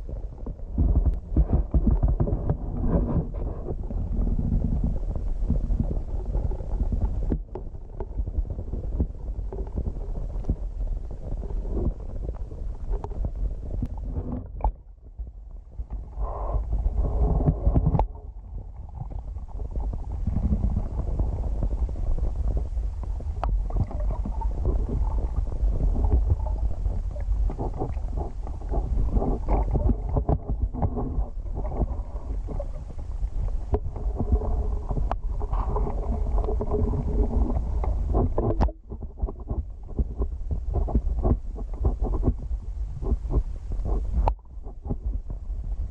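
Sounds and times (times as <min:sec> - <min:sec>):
muffled rumble of moving water: 0:00.0 - 0:45.9.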